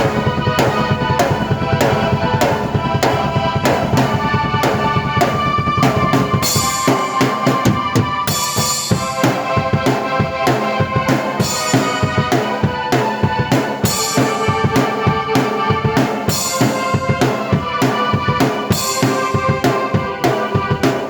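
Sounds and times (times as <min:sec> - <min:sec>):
drum beat: 0:00.0 - 0:21.0
keyboard chords: 0:00.0 - 0:21.0.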